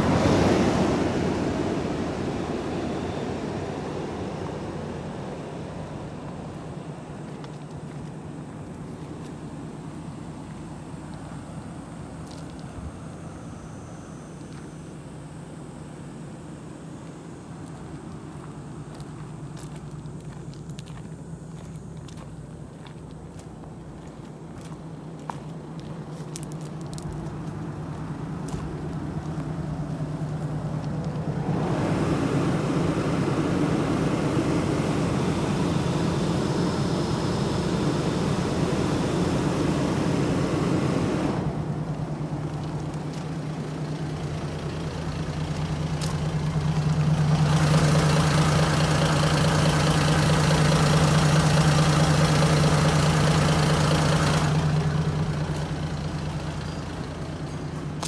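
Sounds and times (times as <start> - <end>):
diesel bus engine idling: 0.0 - 58.0.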